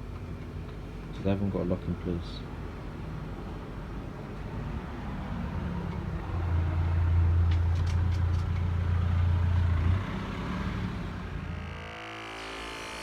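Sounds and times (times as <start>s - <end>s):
street background noise: 0.0s - 11.8s.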